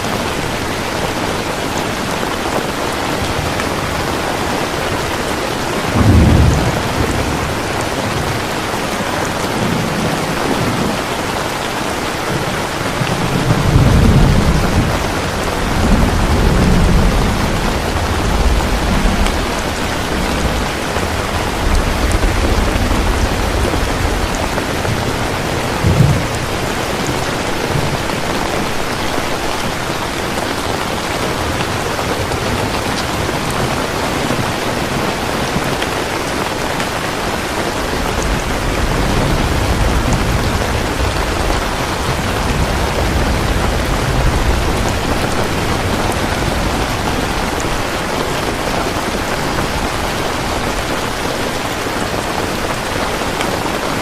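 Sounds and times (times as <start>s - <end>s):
steady rain falling: 0.0s - 54.0s
thunder rumbling: 0.1s - 54.0s.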